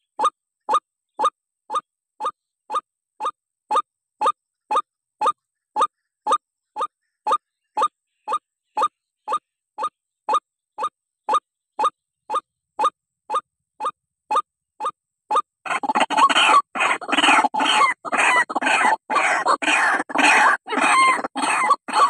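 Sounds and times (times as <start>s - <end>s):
harsh rapid bird chattering: 0.0s - 22.0s.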